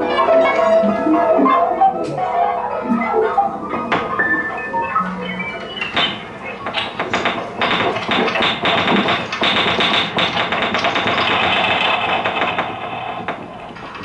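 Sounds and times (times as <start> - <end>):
fast piano notes: 0.0 - 14.0.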